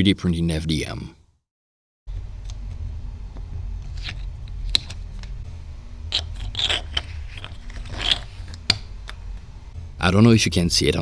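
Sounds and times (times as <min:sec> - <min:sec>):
steady low hum: 0:02.1 - 0:11.0.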